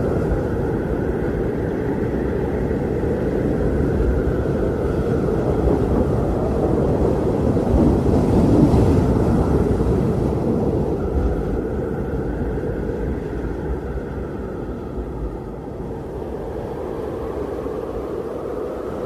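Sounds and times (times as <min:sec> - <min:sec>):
strong wind blowing: 0:00.0 - 0:19.0.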